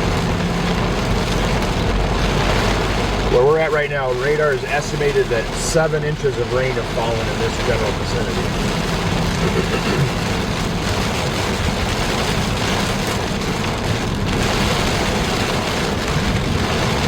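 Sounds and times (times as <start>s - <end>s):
car tyres rushing on wet road: 0.0s - 17.0s.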